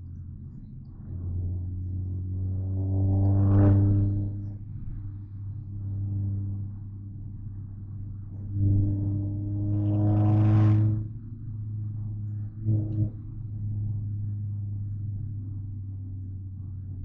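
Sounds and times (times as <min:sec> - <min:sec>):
car engine and exhaust rumbling: 0:00.0 - 0:17.0.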